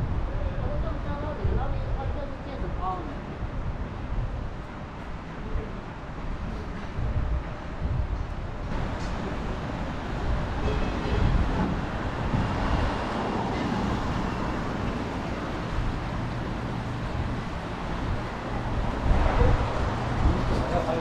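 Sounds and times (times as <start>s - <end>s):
wind gusting on microphone: 0.0s - 21.0s.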